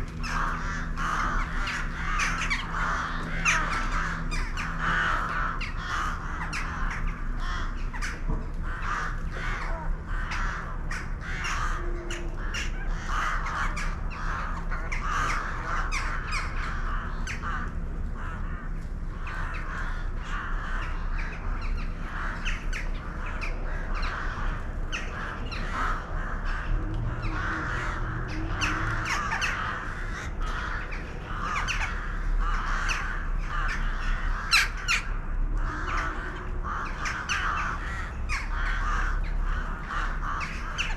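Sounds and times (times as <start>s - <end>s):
flock of birds calling: 0.0s - 40.9s.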